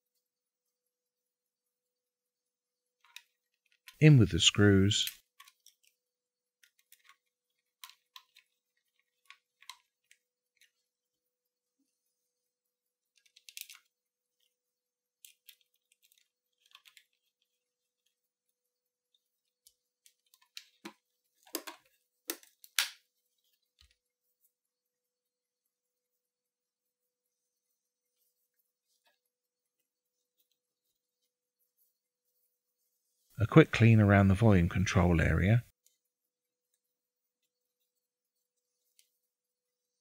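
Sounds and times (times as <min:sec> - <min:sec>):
small clicks and scrapes: 0:02.9 - 0:04.1, 0:05.0 - 0:25.0, 0:25.6 - 0:33.4, 0:35.7 - 0:40.0.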